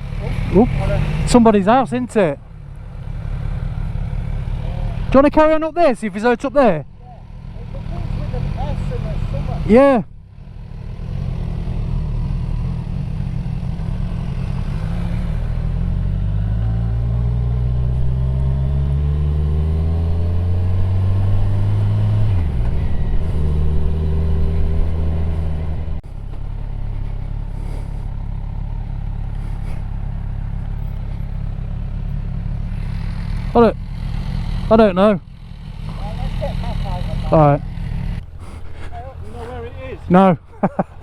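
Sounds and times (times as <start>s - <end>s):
motorcycle engine pulling away: 0.0s - 5.4s, 6.2s - 41.0s.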